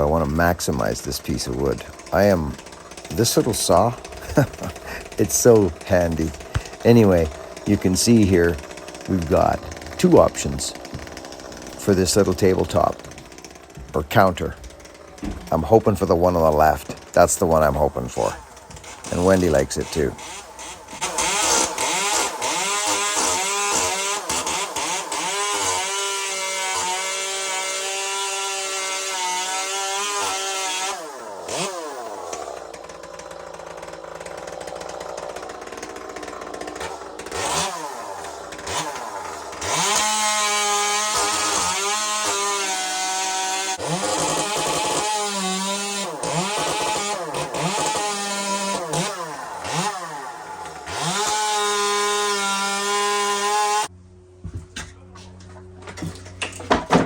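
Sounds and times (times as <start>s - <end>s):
chainsaw cutting wood: 0.0s - 53.9s, 55.8s - 57.0s.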